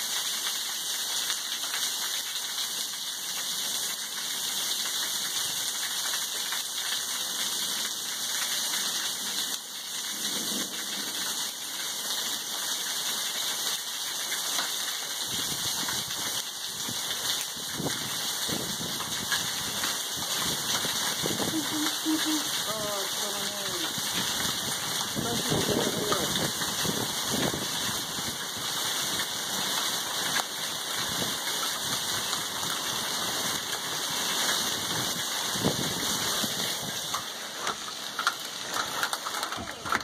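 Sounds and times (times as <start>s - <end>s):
heavy rain on hard surfaces: 0.0s - 40.0s
water splashing off roof: 0.0s - 40.0s.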